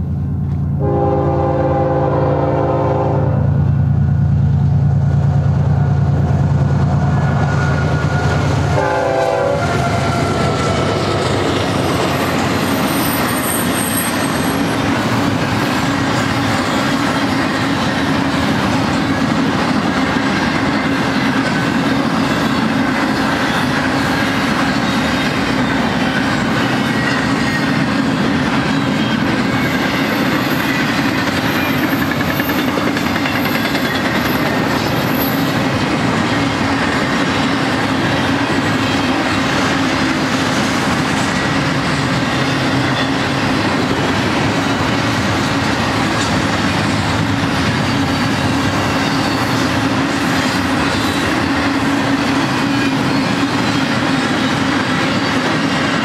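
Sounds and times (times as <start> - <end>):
diesel locomotives rumbling: 0.0 - 56.0
high wheel squeal: 7.0 - 8.8, 9.5 - 19.2, 20.4 - 55.4
train wheels clicking over rail joints: 9.6 - 56.0.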